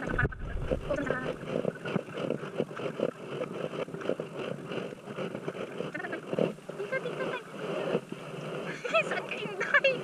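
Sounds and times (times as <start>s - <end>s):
water splashing against kayak: 0.0s - 10.0s.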